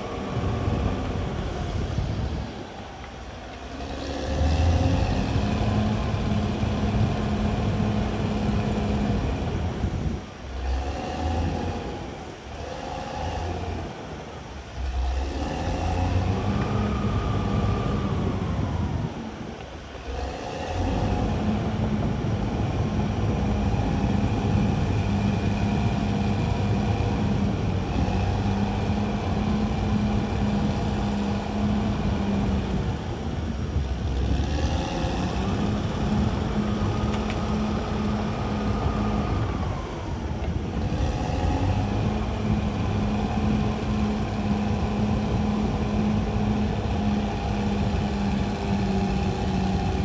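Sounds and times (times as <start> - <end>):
bulldozer diesel engine: 0.0 - 50.0.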